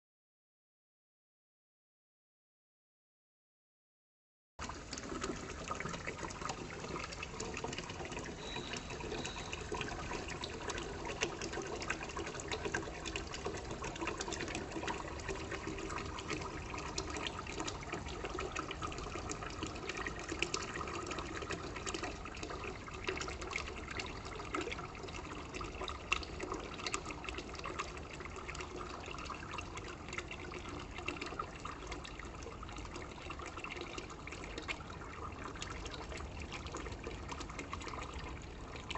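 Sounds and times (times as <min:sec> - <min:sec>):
water running into seeds: 0:04.6 - 0:38.9.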